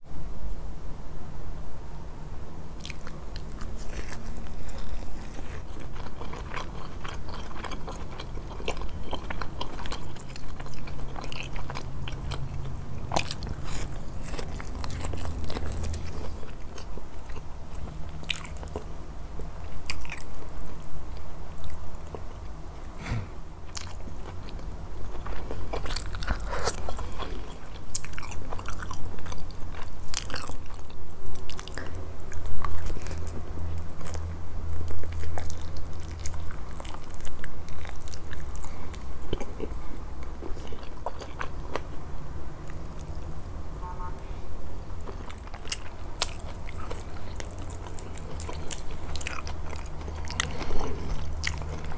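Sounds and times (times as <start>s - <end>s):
person chewing crunchy food: 2.8s - 43.6s, 44.8s - 51.9s.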